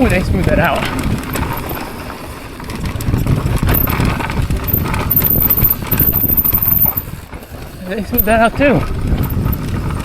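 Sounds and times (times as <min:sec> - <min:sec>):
mountain bike clattering over bumps: 0:00.0 - 0:10.0.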